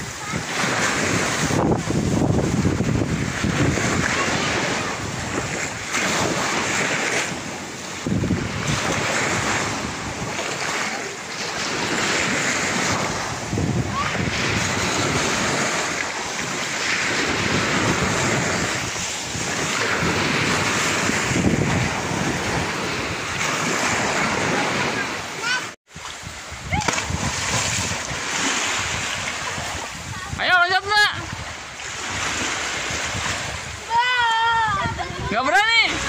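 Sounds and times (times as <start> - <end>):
small waves breaking on beach: 0.0 - 36.0
wind buffeting microphone: 0.0 - 36.0.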